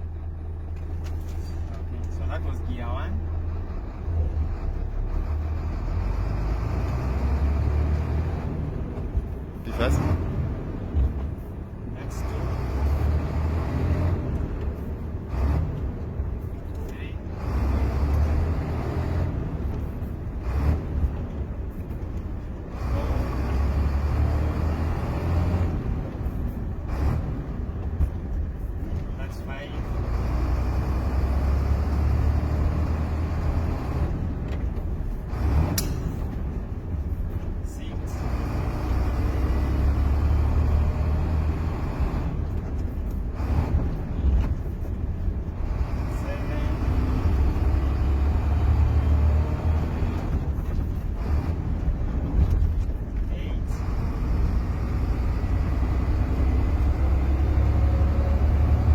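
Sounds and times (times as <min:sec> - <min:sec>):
truck diesel engine droning: 0:00.0 - 0:58.9.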